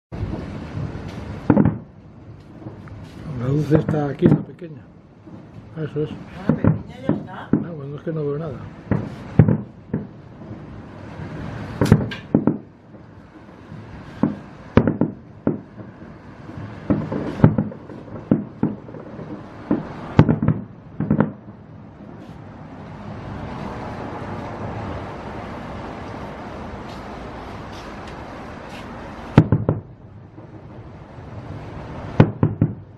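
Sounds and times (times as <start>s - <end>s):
fireworks bangs: 0.1s - 32.9s
fireworks hissing: 0.2s - 32.3s.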